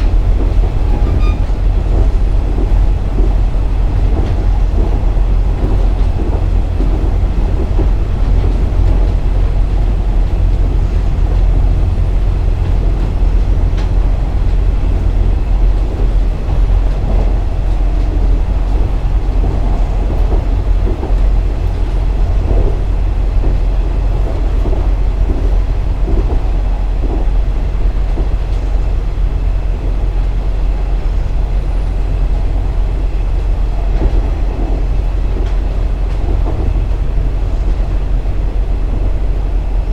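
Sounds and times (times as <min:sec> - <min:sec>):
diesel railcar rumbling on rails: 0:00.0 - 0:39.9.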